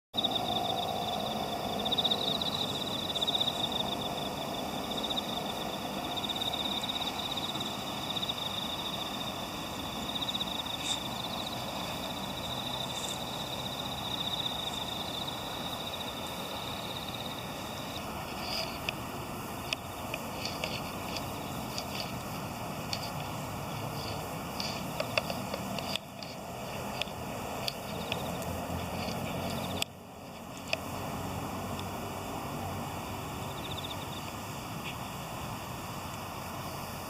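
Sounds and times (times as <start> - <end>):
insects trilling: 0.2 - 37.0.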